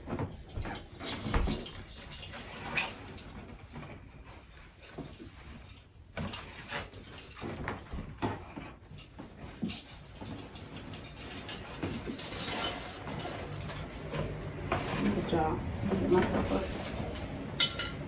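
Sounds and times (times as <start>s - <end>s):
ribbon and branches rustling: 1.2s - 17.3s.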